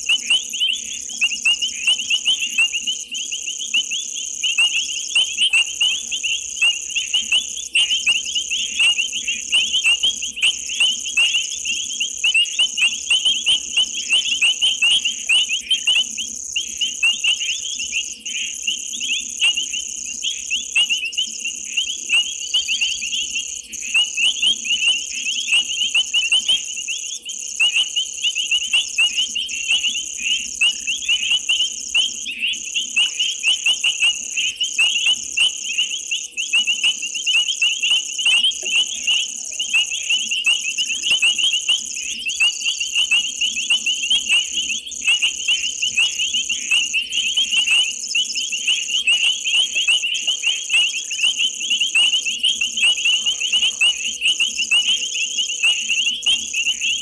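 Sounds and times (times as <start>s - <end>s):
frogs calling: 0.0s - 57.0s
high-pitched insect drone: 0.0s - 57.0s.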